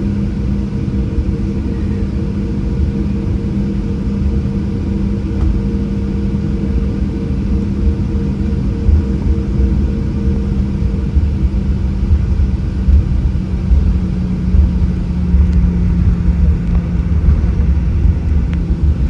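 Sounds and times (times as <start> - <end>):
jet engines heard from cabin: 0.0 - 19.0.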